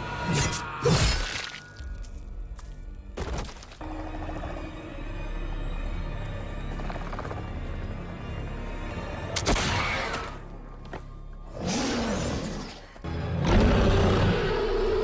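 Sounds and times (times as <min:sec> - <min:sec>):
low tense music score: 0:00.0 - 0:15.0.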